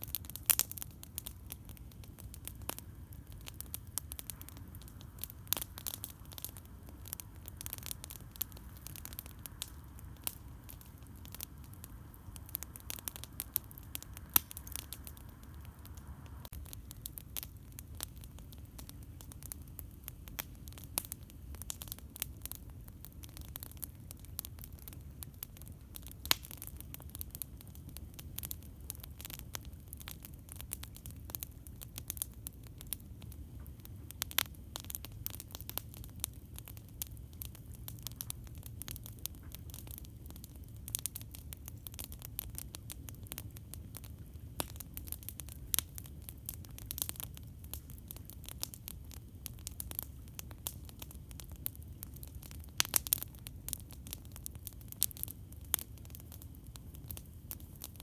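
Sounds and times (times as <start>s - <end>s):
campfire crackling and popping: 0.0s - 58.0s
loud fire pops: 0.0s - 58.0s
low rumble of fire: 0.0s - 58.0s.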